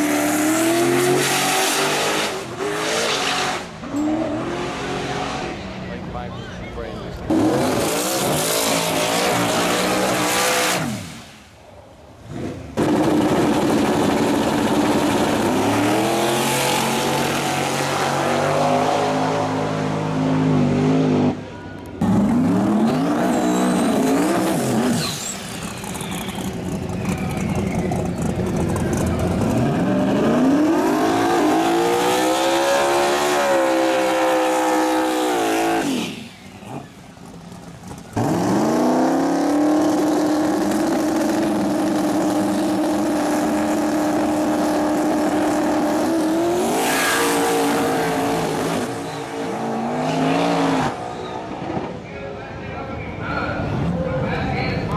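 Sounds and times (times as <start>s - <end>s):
race cars accelerating away: 0.0s - 6.2s, 7.1s - 11.2s, 12.2s - 52.0s
race car engines revving: 0.0s - 54.9s.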